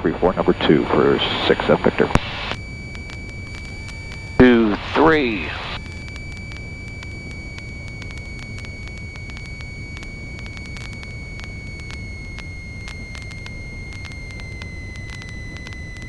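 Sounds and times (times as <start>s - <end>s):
airplane engine and propeller droning: 0.0s - 16.0s
high whine: 0.0s - 16.0s
faint crackling clicks: 0.4s - 16.0s.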